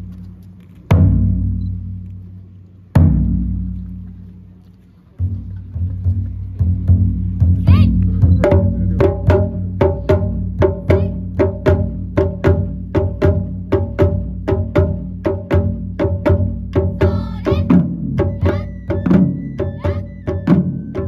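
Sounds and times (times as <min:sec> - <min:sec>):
low rumble of big drums: 0:00.0 - 0:21.0.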